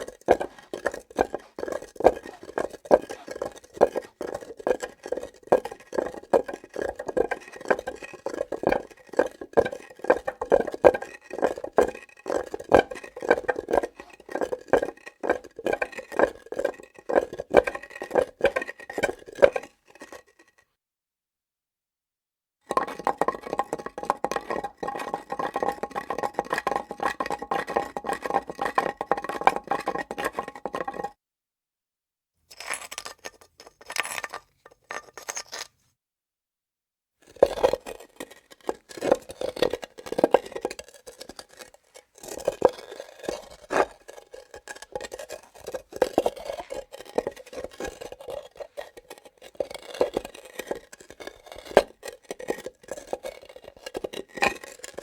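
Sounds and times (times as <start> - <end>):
objects scraping on stone: 0.0 - 20.6, 22.7 - 31.1, 32.5 - 35.8, 37.3 - 55.0.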